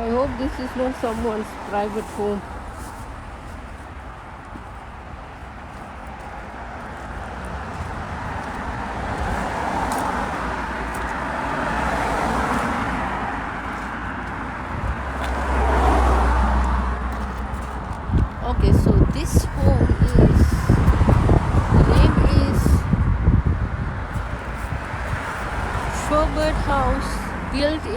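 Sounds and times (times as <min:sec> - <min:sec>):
cars passing by: 0:00.0 - 0:27.9.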